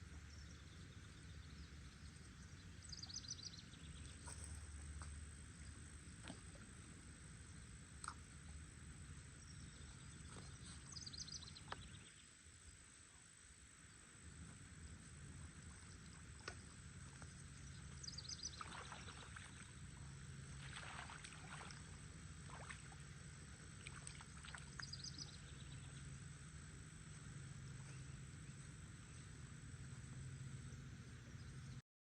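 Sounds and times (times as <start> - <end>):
low steady hum: 0.0 - 31.8.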